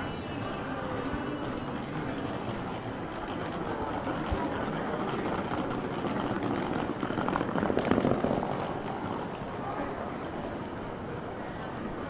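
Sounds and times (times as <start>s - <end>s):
traffic engines running: 0.0s - 12.0s.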